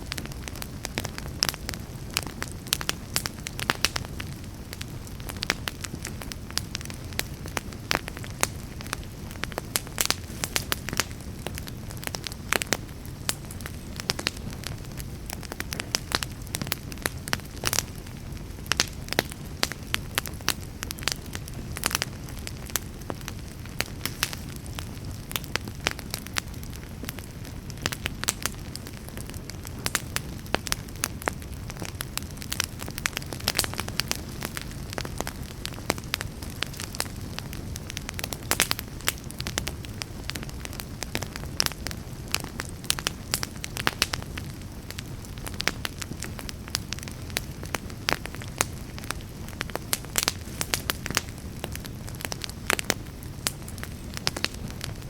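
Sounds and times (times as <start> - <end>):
burning logs crackling and popping: 0.0 - 55.0
low rumble of flame: 0.0 - 55.0.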